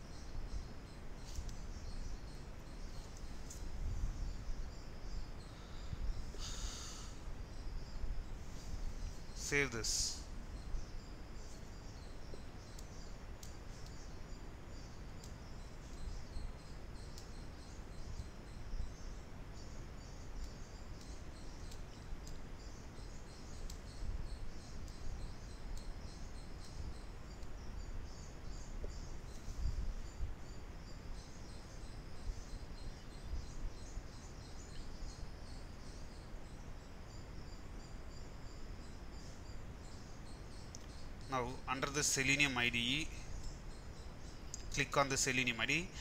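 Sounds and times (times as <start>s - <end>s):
dense high-pitched chirping: 0.0s - 46.0s.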